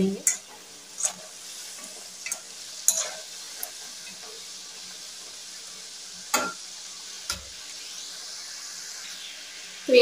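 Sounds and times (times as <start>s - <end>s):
deep-frying sizzle in oil: 0.0s - 10.0s.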